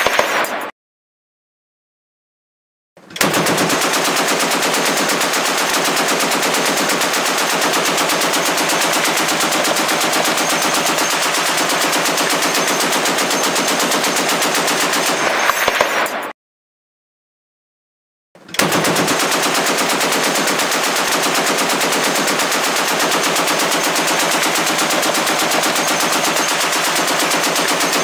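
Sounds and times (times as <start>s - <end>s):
heavy machine gun firing: 0.0s - 0.7s, 3.1s - 16.3s, 18.4s - 28.0s.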